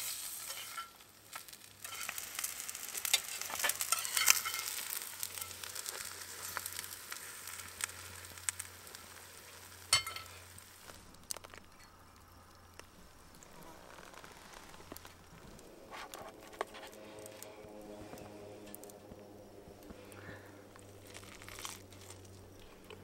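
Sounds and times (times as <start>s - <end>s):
fat sizzling in a frying pan: 0.0s - 20.1s, 20.7s - 23.0s.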